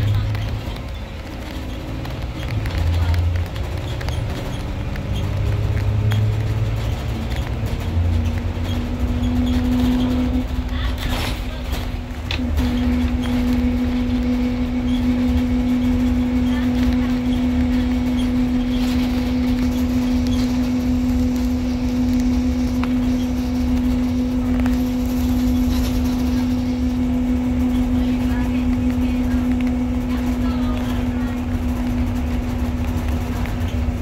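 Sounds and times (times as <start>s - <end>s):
bus engine and road rumble: 0.0s - 34.0s
steady cabin hum: 5.9s - 34.0s.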